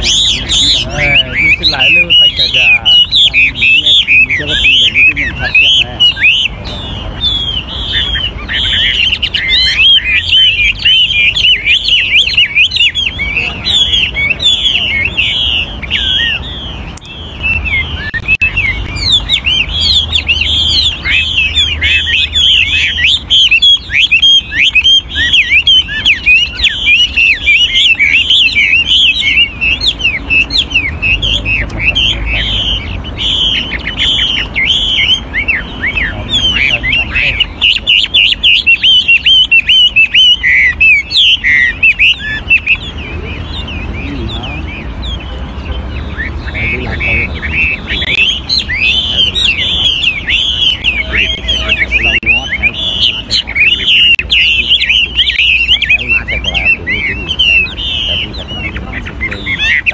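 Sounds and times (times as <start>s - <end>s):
bird singing whistled phrases: 0.0s - 59.9s.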